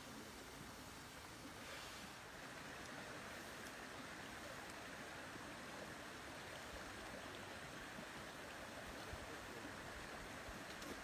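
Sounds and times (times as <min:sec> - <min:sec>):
outdoor ambience hiss: 0:00.0 - 0:11.0.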